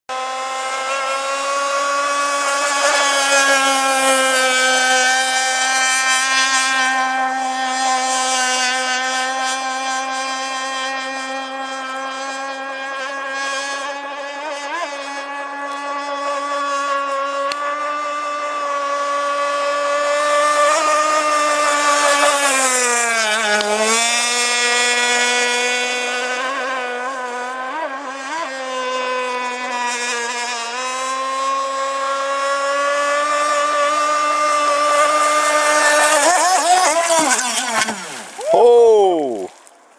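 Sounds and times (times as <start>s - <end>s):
model boat motor high-pitched: 0.1s - 39.7s.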